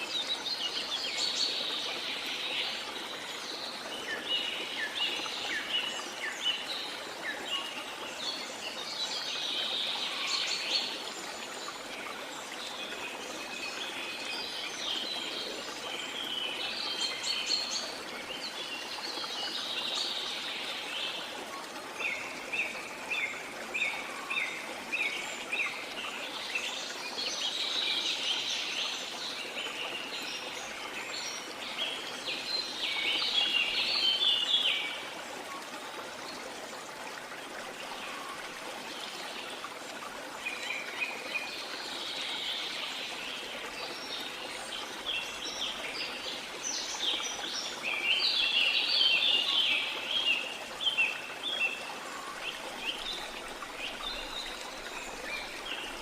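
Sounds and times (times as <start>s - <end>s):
flowing water: 0.0s - 56.0s.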